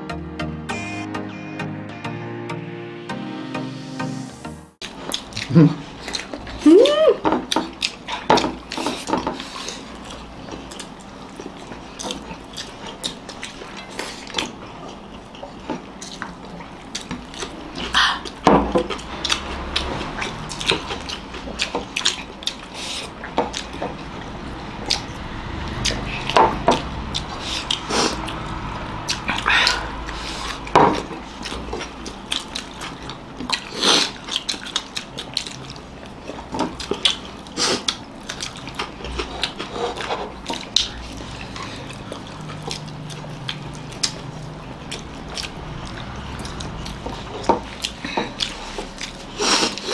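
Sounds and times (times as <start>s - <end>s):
wet chewing and lip-smacking: 4.8s - 49.9s.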